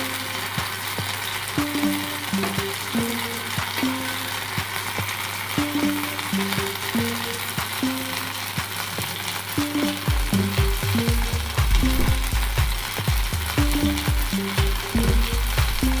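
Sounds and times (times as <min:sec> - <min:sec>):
background music with bass beat: 0:00.0 - 0:16.0
fish sizzling in oil: 0:00.0 - 0:16.0.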